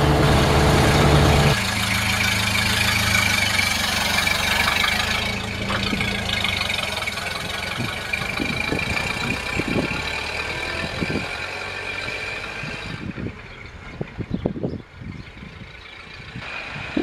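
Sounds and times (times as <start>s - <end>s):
car engine driving away: 0.0s - 17.0s.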